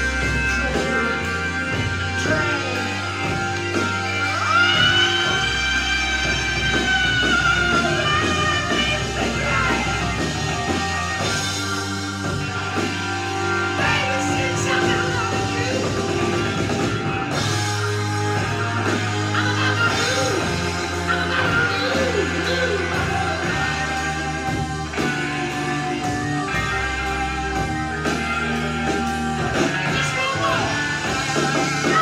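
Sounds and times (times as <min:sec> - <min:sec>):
song with singing from record: 0:00.0 - 0:32.0.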